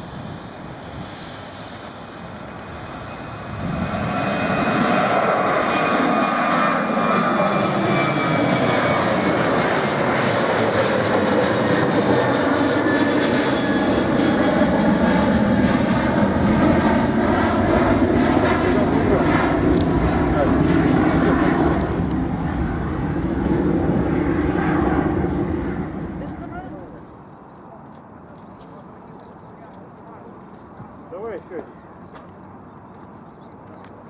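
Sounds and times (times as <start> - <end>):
jet engines passing overhead: 0.0 - 34.0.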